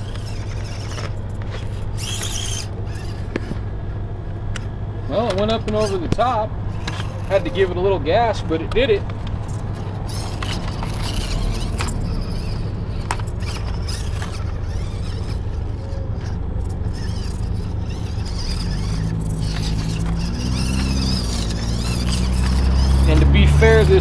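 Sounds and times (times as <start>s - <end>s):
electric motor whine: 0.0s - 24.0s
steady low rumble: 2.7s - 23.2s.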